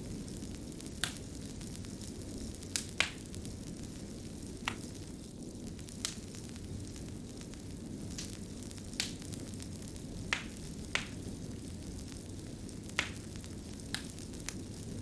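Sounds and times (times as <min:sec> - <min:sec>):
fire burning with low rumble: 0:00.0 - 0:15.0
fire crackling pops: 0:00.0 - 0:15.0.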